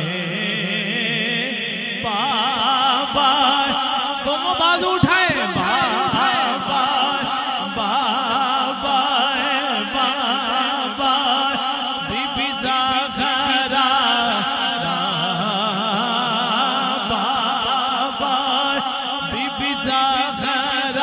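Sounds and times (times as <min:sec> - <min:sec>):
man chanting over loudspeaker: 0:00.0 - 0:21.0.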